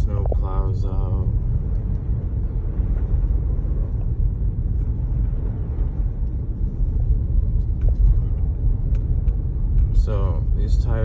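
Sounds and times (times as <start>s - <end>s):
car cabin rumble driving: 0.0s - 11.0s.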